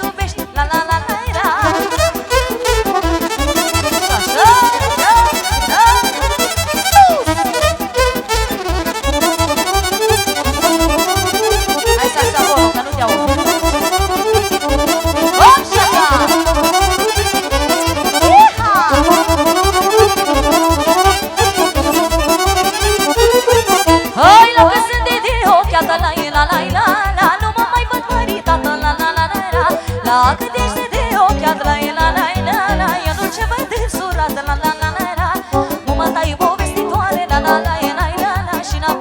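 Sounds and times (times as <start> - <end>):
accordion-led band playing: 0.0 - 39.0.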